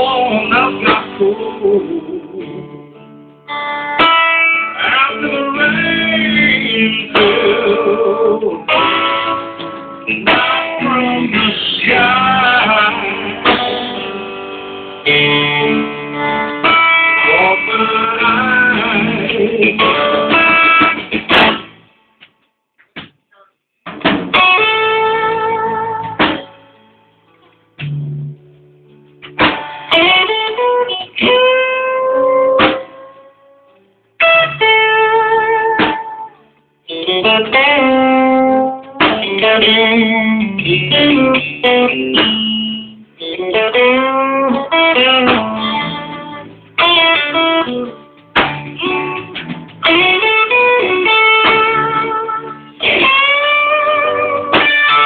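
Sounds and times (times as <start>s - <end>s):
live blues band: 0.0s - 21.8s, 23.9s - 27.0s, 27.8s - 55.0s
electric guitar solo bent notes: 0.0s - 22.0s, 24.0s - 55.0s.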